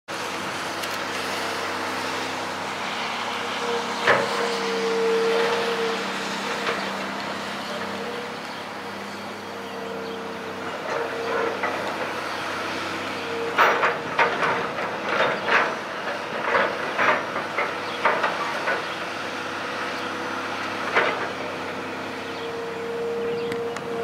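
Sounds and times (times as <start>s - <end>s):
excavator engine running: 0.1s - 24.0s.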